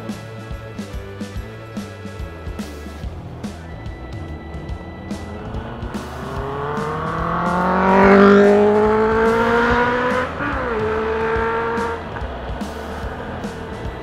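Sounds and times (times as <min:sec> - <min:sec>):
motorcycle engine accelerating: 0:00.9 - 0:14.0.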